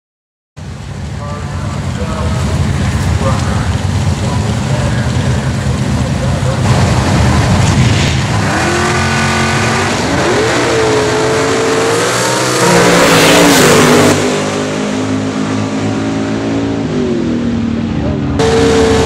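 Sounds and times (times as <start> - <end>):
drag car engines revving and launching: 0.6 - 19.0.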